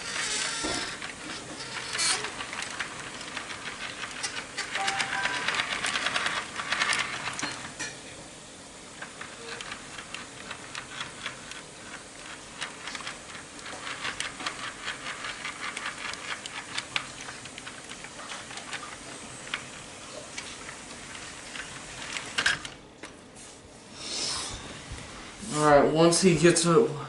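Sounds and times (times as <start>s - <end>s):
model train wheels clicking: 0.0s - 22.8s.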